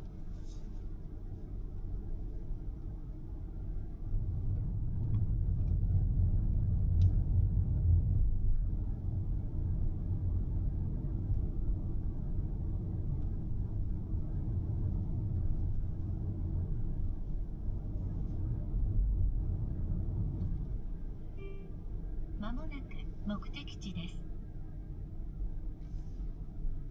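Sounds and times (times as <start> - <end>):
car road rumble: 0.0 - 26.9.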